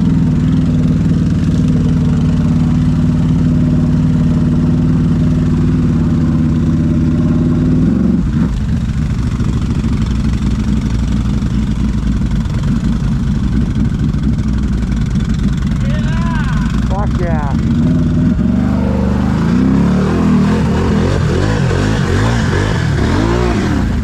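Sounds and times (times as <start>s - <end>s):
atv engine idling: 0.0s - 24.0s.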